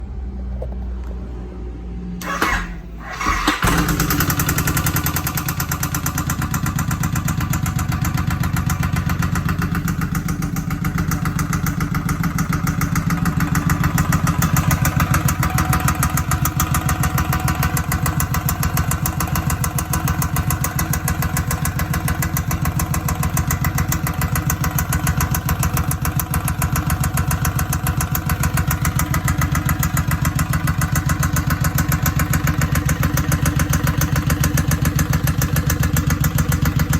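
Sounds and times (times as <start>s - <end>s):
motorcycle engine idling: 2.2s - 36.9s
loud regular engine knocking: 3.3s - 36.9s.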